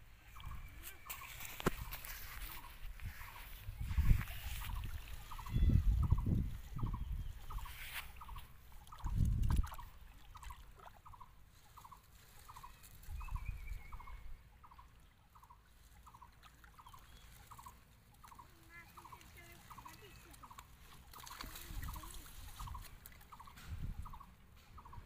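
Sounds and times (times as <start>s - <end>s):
water and mud sloshing: 0.0s - 14.2s, 15.1s - 24.9s.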